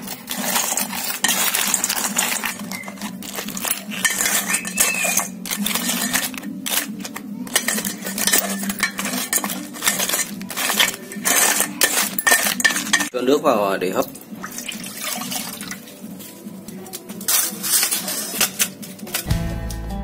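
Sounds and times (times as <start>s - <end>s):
crabs clattering in steel bowl: 0.0s - 13.2s, 13.8s - 19.3s.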